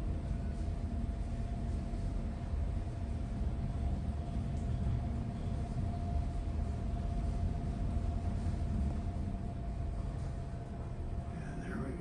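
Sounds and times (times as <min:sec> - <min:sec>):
elevator low rumble: 0:00.0 - 0:12.0
thin constant hum: 0:00.0 - 0:12.0.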